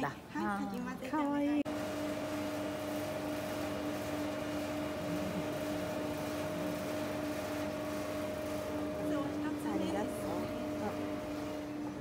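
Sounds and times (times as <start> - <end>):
ice cream machine humming: 0.0 - 12.0.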